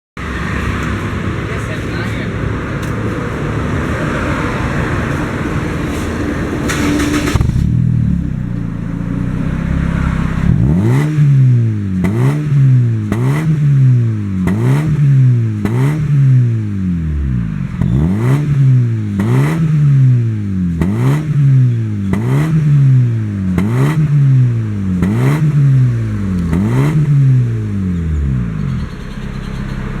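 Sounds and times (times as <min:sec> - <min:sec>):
car engine revving: 0:00.2 - 0:30.0
car engine idling: 0:00.7 - 0:30.0.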